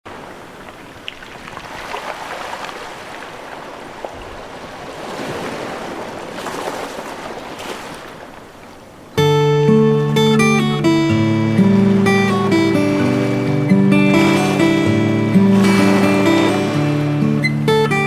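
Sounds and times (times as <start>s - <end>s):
sea waves washing in: 0.1s - 18.0s.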